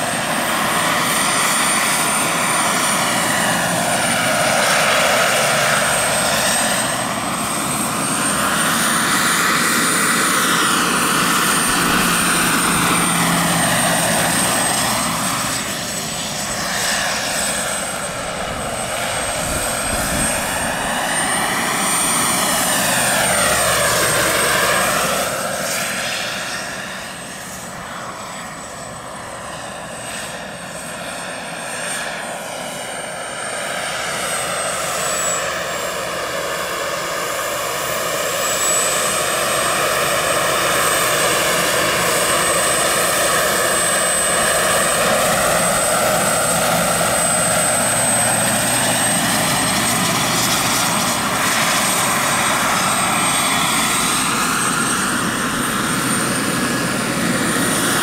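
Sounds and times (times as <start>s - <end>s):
helicopter rotor noise: 0.0s - 58.0s
model helicopter turbine whine: 0.0s - 58.0s.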